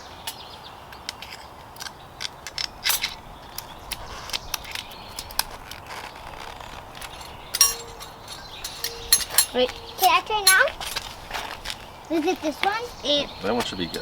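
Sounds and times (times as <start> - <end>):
small metallic clicks and scrapes: 0.2 - 11.8.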